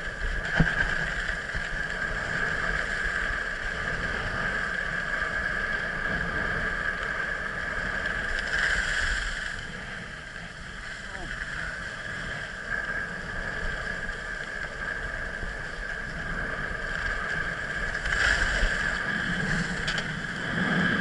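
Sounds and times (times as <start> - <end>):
skis running over snow: 0.0 - 21.0
wind on microphone: 0.0 - 21.0.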